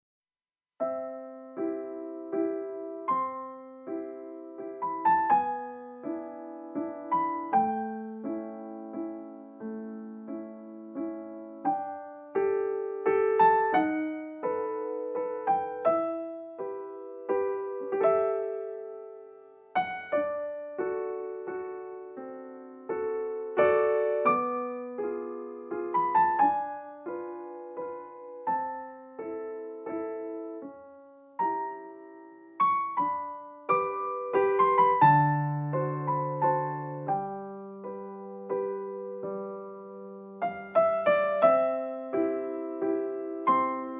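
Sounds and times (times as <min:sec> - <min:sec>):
solo piano piece: 0:00.7 - 0:43.9.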